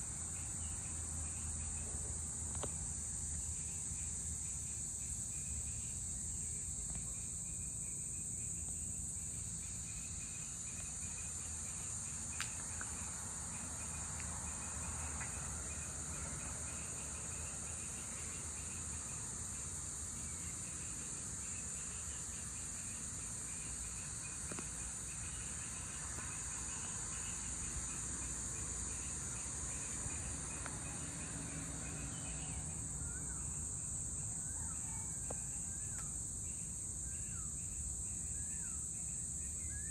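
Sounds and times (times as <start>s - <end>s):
insect chirping in fast pulse: 0.0s - 39.9s
insects droning: 0.0s - 39.9s.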